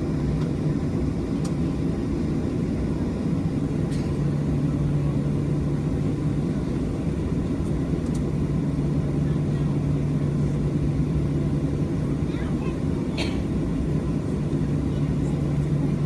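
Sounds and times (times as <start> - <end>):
jet engine cabin drone: 0.0 - 16.0.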